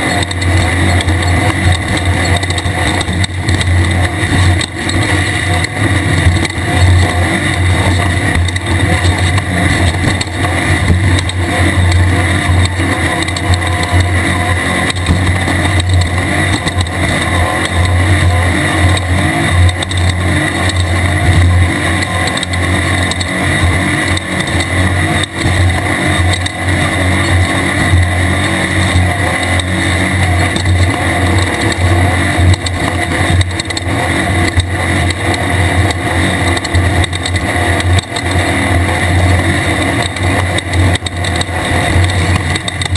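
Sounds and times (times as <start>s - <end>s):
car rattling on rough ground: 0.0s - 42.9s
race car engine rumbling: 0.0s - 42.9s.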